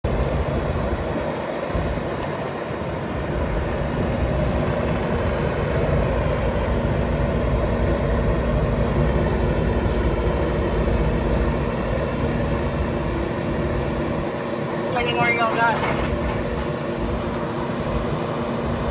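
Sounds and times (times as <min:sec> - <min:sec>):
diesel engine rumbling: 0:00.0 - 0:18.9.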